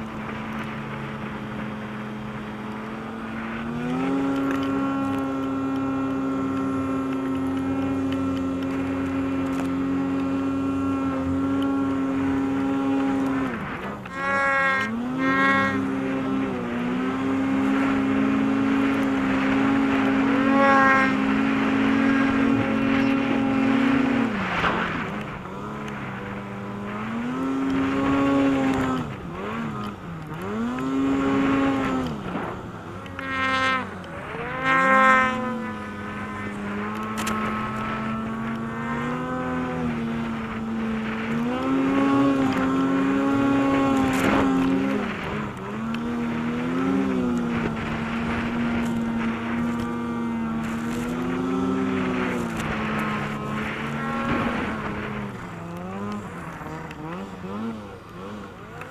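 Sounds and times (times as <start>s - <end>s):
snowmobile engine revving: 0.0s - 58.9s.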